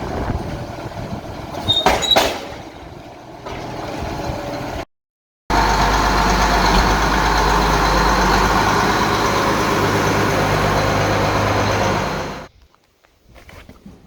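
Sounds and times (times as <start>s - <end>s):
tractor engine running: 0.0s - 4.8s, 5.5s - 12.5s.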